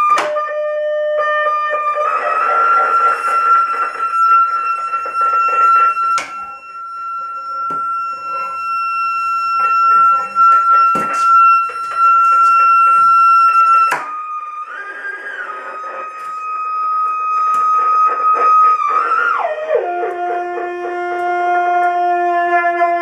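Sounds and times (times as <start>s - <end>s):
steady electronic tone: 1.9s - 21.1s.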